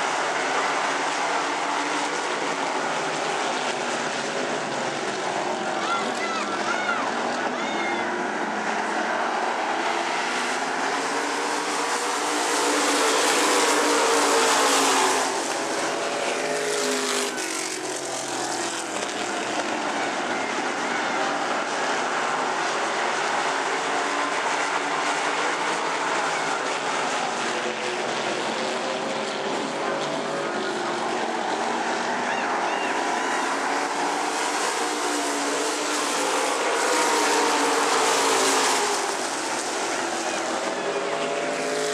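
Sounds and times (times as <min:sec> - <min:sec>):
race car engines at speed: 0:00.0 - 0:41.9.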